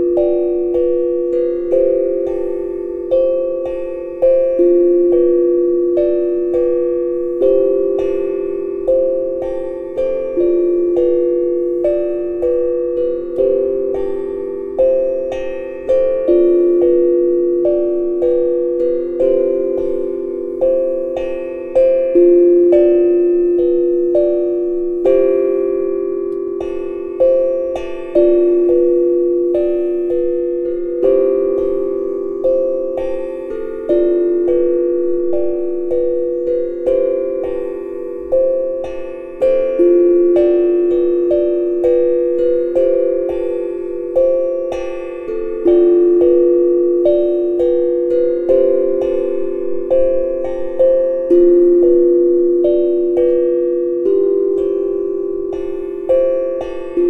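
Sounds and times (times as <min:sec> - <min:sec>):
tongue drum melody: 0:00.0 - 0:57.0.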